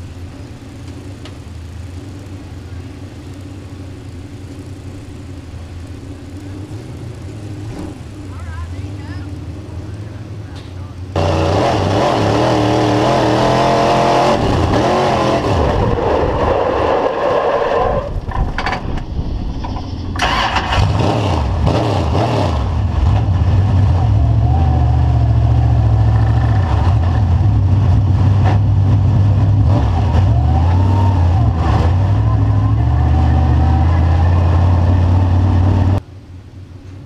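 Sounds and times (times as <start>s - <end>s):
race car engine accelerating: 4.0s - 18.2s, 20.2s - 36.0s.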